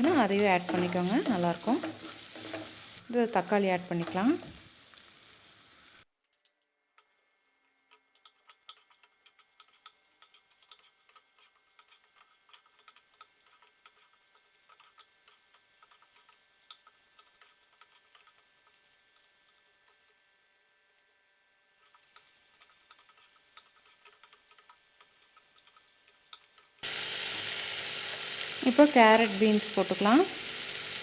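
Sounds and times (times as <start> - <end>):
vegetables frying in oil: 0.0 - 6.1, 8.0 - 31.0.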